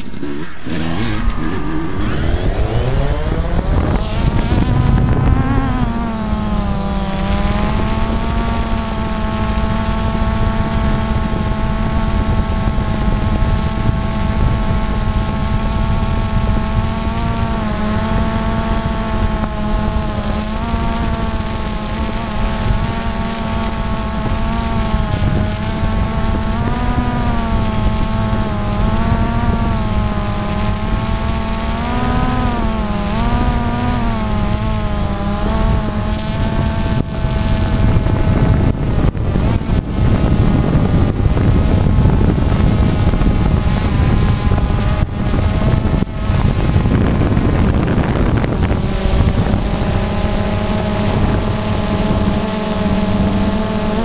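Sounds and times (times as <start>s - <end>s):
wind rumble: 0.0s - 53.8s
drone propellers whining: 0.0s - 54.0s.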